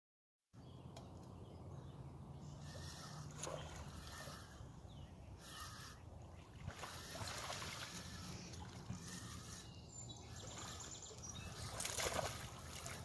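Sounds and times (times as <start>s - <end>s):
river water trickling: 0.7s - 13.0s.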